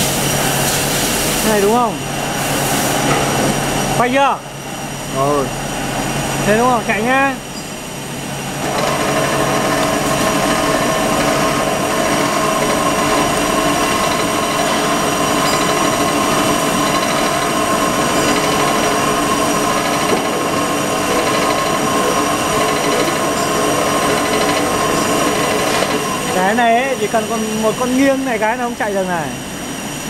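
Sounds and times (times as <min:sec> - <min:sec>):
grinding machine humming and whining: 0:00.0 - 0:30.0.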